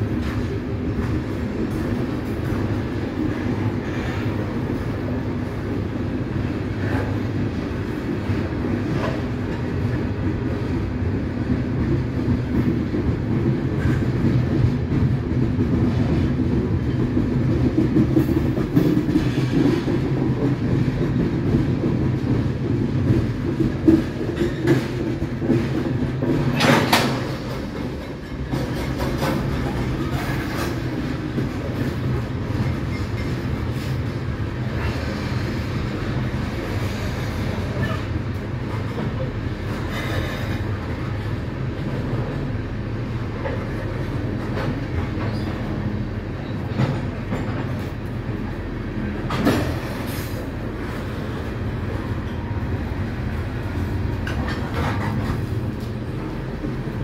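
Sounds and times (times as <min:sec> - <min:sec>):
train clickety-clack: 0:00.0 - 0:57.0
train wheels rumbling on rails: 0:00.0 - 0:57.0.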